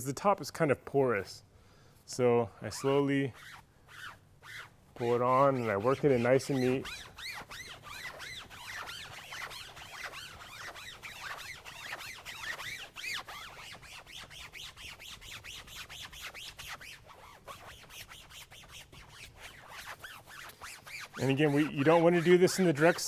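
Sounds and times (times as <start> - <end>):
foam pad squeaking on fabric: 2.7 - 23.0.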